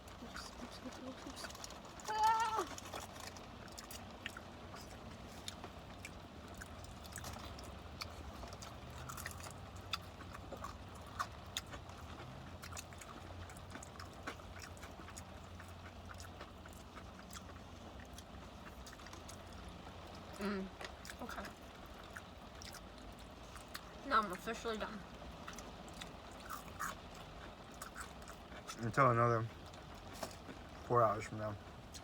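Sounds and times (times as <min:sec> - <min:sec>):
crunching fried chicken: 0:00.0 - 0:24.2, 0:25.1 - 0:32.0.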